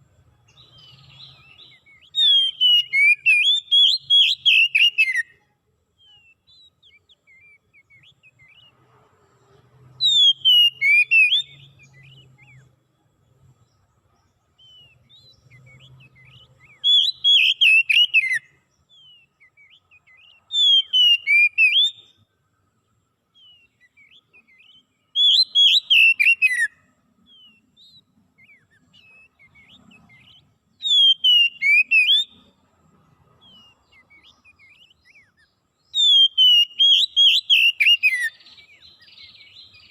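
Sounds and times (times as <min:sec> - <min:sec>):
songbird singing whistled phrases: 0:00.4 - 0:05.4, 0:06.0 - 0:08.8, 0:09.9 - 0:12.8, 0:14.2 - 0:22.3, 0:23.3 - 0:32.5, 0:33.3 - 0:39.9.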